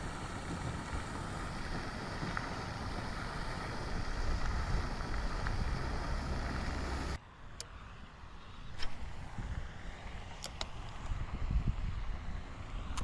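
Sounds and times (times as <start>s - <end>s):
wind buffeting microphone: 0.0s - 7.2s, 8.6s - 13.0s.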